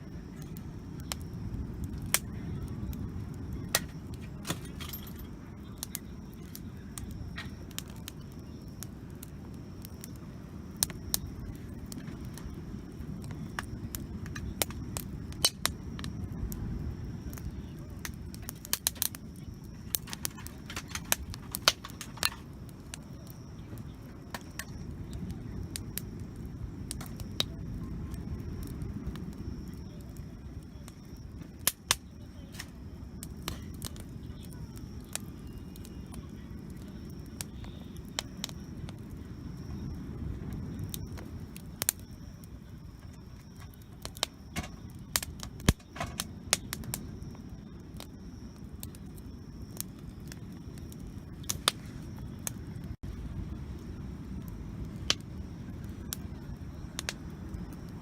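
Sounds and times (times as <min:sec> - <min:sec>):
campfire crackling and popping: 0:00.0 - 0:58.0
steady low rumble: 0:00.0 - 0:58.0.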